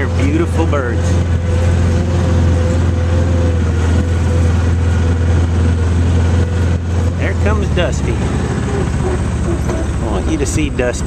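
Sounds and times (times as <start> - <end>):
high engine whine: 0.0 - 11.0
vehicle engine low drone: 0.0 - 11.0.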